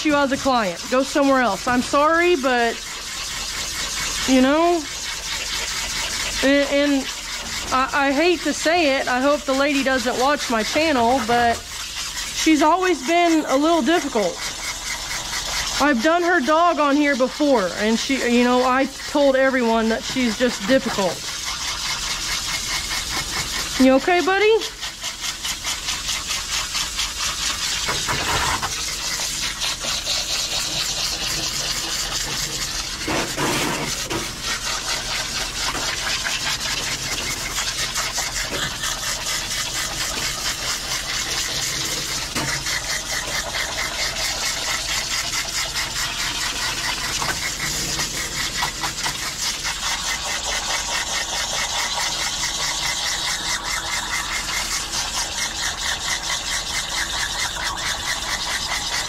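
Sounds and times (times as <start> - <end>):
water spraying from hose: 0.0 - 59.0.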